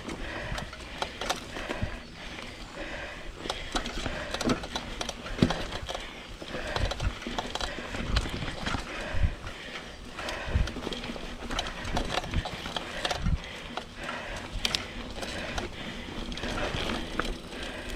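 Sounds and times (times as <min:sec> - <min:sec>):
bike rattling over bumps: 0:00.0 - 0:17.9
bike tyres rolling over dirt: 0:00.0 - 0:17.9.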